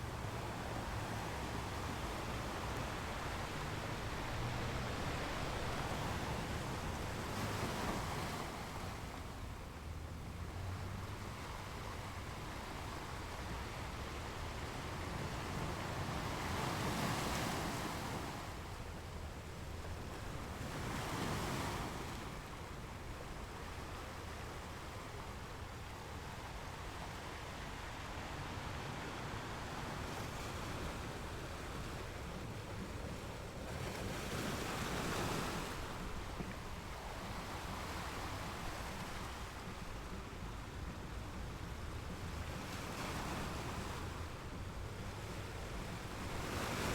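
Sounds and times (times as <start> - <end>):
ocean surf washing: 0.0 - 46.9
waves breaking: 0.0 - 46.9.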